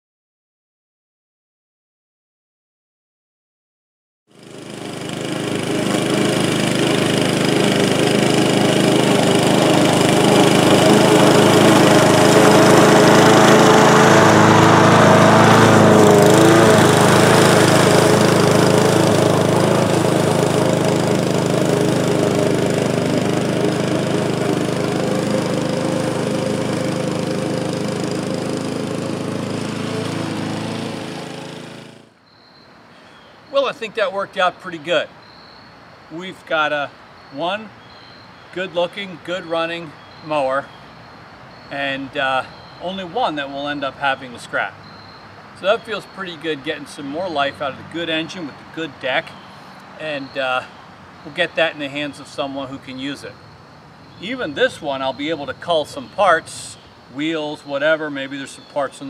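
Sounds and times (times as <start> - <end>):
lawn mower engine running: 4.3 - 59.0.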